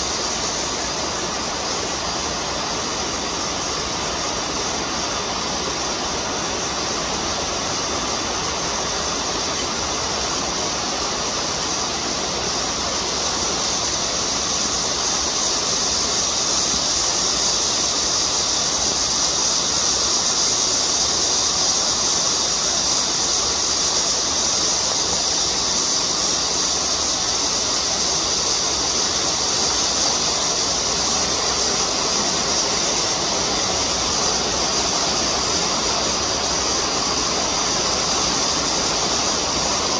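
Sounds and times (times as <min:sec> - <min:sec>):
cicadas buzzing: 0:00.0 - 0:39.9
flowing stream water: 0:00.0 - 0:39.9.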